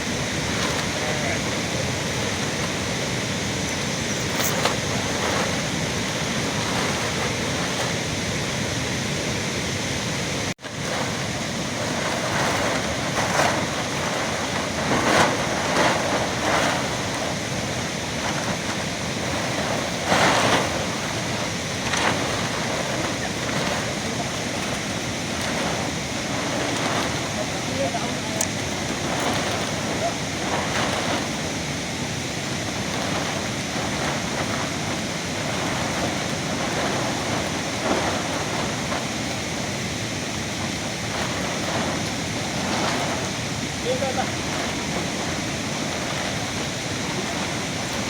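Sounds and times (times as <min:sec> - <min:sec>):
heavy rain: 0:00.0 - 0:48.0
wind: 0:00.0 - 0:48.0.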